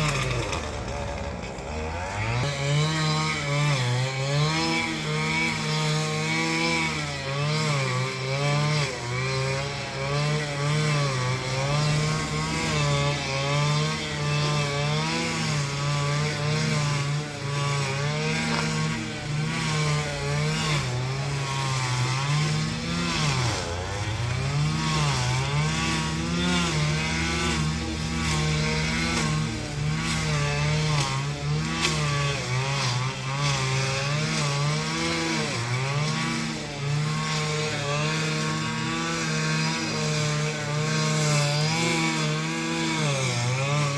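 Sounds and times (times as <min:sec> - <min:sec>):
two-stroke power tool engine: 0:00.0 - 0:43.9.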